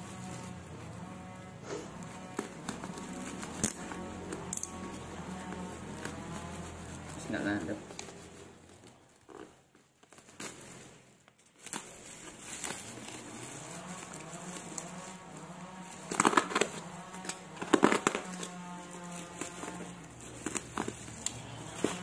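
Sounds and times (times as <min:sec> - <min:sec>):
plastic packaging crinkling and tearing: 0:00.0 - 0:22.0.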